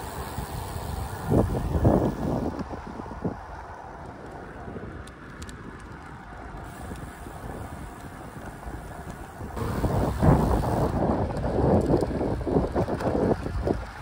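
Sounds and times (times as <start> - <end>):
outdoor rumble and hiss: 0.0 - 14.0.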